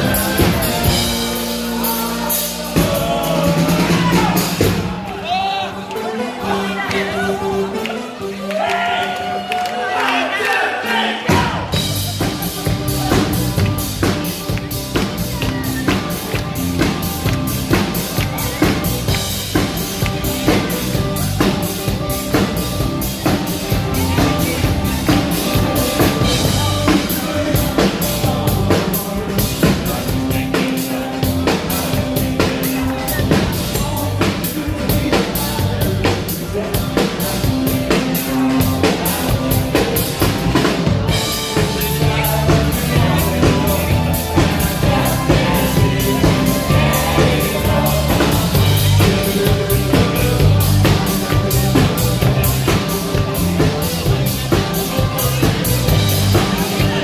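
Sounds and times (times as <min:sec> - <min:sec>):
live rock band playing: 0:00.0 - 0:05.3, 0:11.3 - 0:57.0
drum kit beat: 0:00.0 - 0:05.8, 0:11.2 - 0:57.0.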